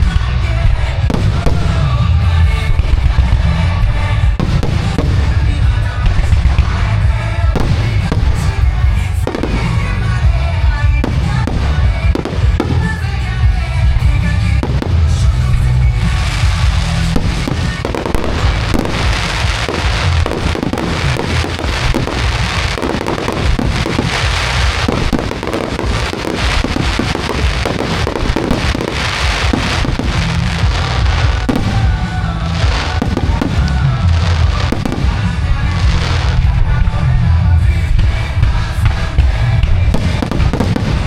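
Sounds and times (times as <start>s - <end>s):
fireworks bursting and crackling: 0.0s - 41.0s
music over loudspeakers: 0.0s - 41.0s.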